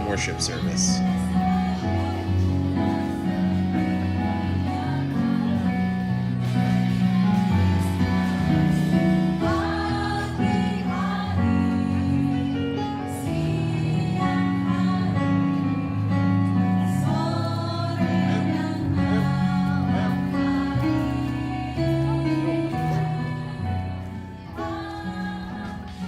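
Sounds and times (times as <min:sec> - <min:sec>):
group of people singing: 0:00.0 - 0:06.1, 0:07.4 - 0:16.2, 0:16.8 - 0:26.0.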